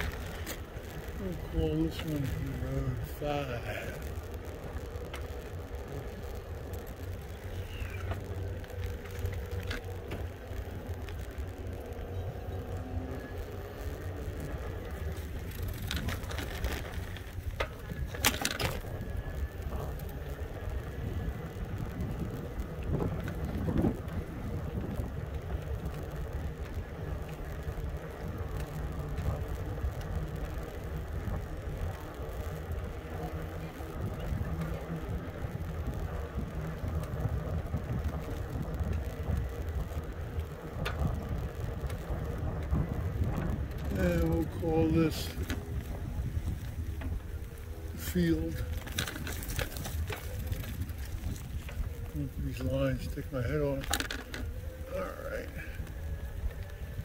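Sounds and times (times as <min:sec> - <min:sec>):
electric bike riding rumble: 0:00.0 - 0:57.0
rolling noise: 0:00.0 - 0:57.0
sharp clicks and rattles: 0:00.0 - 0:57.0
wind buffeting microphone: 0:00.0 - 0:57.0.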